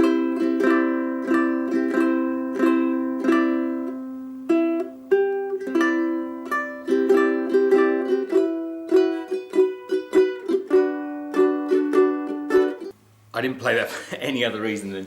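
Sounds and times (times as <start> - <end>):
ukulele plucked notes and chords: 0.0 - 13.0.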